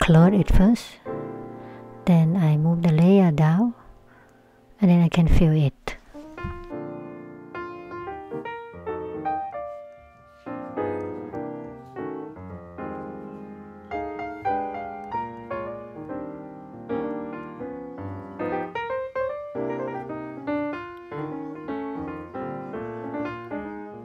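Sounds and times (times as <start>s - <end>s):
piano music: 0.0s - 5.1s, 6.1s - 24.0s.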